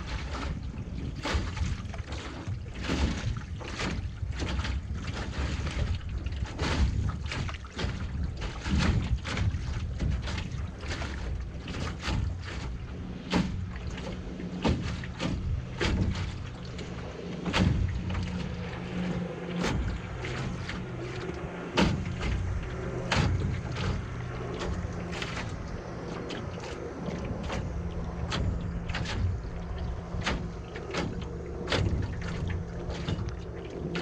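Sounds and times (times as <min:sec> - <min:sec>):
paddle strokes knocking and splashing: 0:00.0 - 0:34.0
wind and water rumble on hull: 0:00.0 - 0:34.0.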